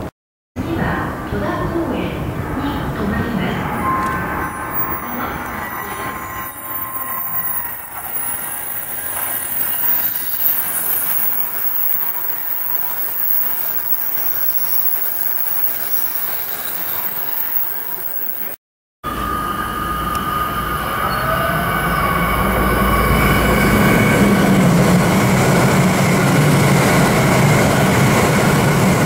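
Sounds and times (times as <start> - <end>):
train passing with rushing air: 1.1 - 29.0.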